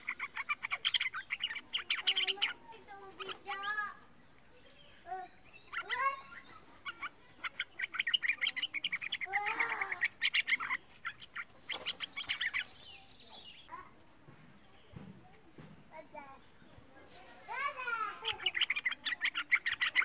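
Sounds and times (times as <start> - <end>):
bird singing and chirping: 0.0 - 15.0, 17.5 - 20.0.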